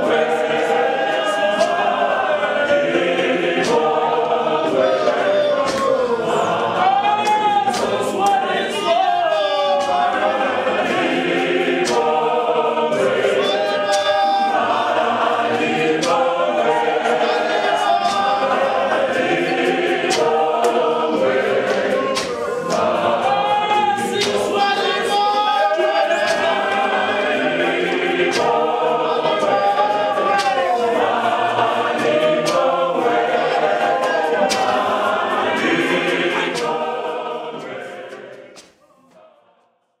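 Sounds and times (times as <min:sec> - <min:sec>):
sharp percussive beats: 0:00.0 - 0:39.1
congregation singing unaccompanied: 0:00.0 - 0:40.0.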